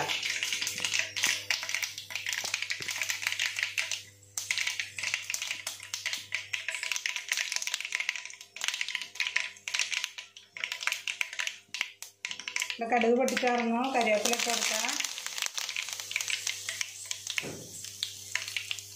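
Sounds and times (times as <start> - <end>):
mustard seeds popping in hot oil: 0.0 - 18.9.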